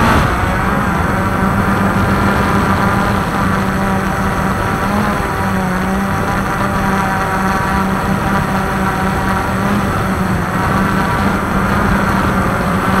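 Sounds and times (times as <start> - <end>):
quadcopter buzzing hum: 0.0 - 13.0.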